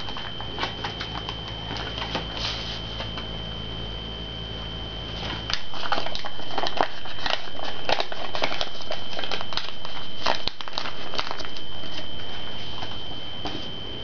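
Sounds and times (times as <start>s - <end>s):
paper crinkling: 0.0s - 3.3s, 5.1s - 13.8s
steady high-pitched whine: 0.0s - 14.0s.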